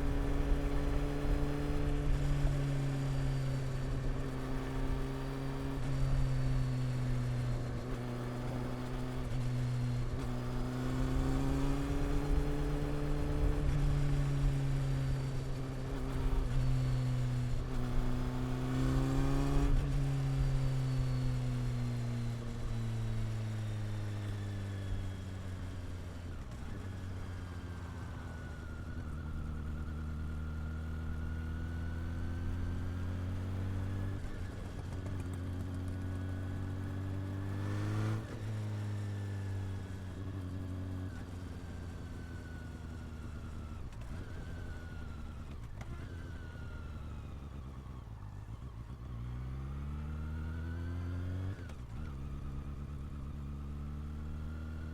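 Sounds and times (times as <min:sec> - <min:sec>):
motorcycle engine while riding: 0:00.0 - 0:54.9.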